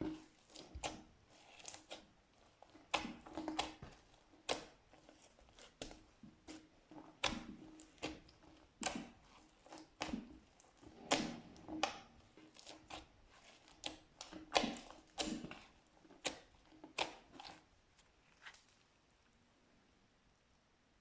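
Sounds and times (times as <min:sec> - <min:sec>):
slime squelching with wet clicks: 0:00.0 - 0:19.4.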